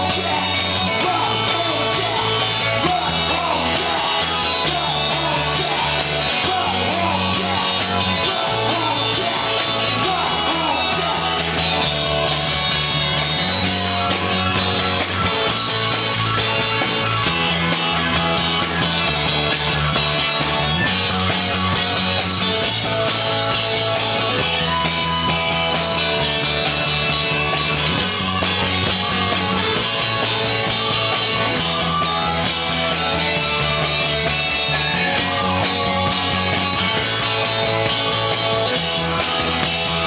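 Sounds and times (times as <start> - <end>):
drum kit with cymbals: 0.0 - 40.0
electric guitar: 0.0 - 40.0
low bass line: 0.0 - 40.0.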